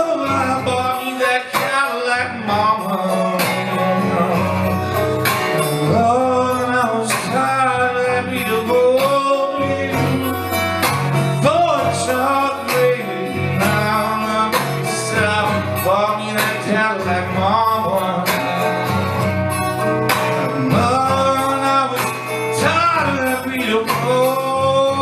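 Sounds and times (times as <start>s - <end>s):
blues guitar with slides: 0.0s - 25.0s.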